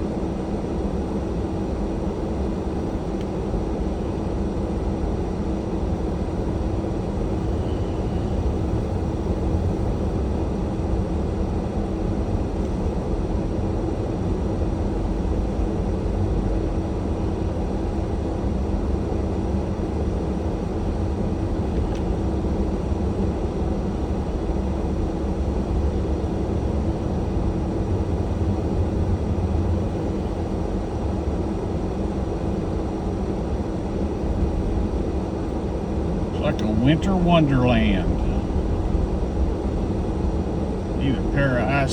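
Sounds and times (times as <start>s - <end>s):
constant hum: 0.0s - 41.9s.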